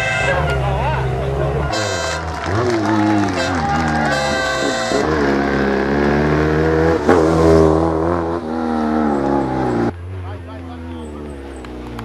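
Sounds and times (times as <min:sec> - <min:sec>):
rally car engine revving: 0:00.3 - 0:12.0.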